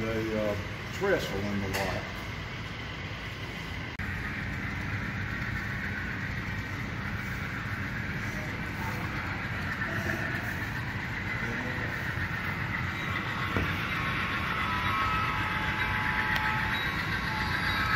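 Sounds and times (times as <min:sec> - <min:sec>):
model train rumbling on track: 0:00.0 - 0:17.9.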